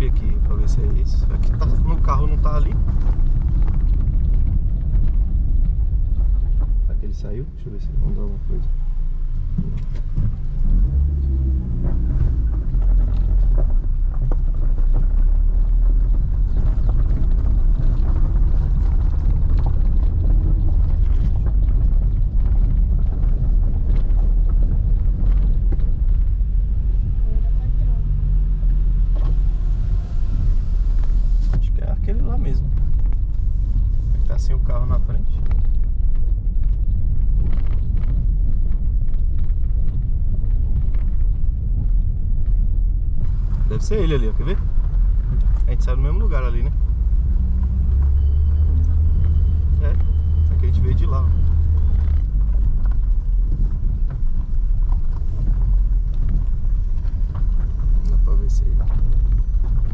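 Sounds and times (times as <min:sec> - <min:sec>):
car road and tyre rumble: 0:00.0 - 0:59.9
light rattles and knocks: 0:00.0 - 0:59.9.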